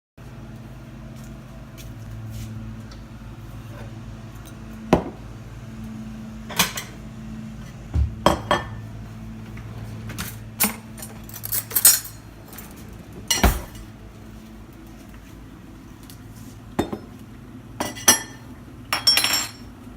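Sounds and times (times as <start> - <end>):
steady low hum: 0.2 - 19.9.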